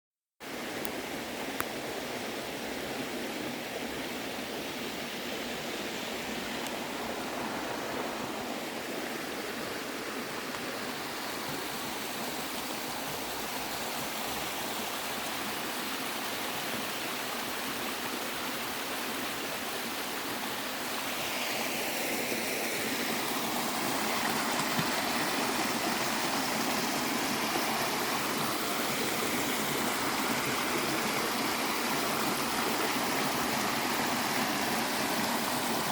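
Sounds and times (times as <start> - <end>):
water rushing: 0.4 - 35.9.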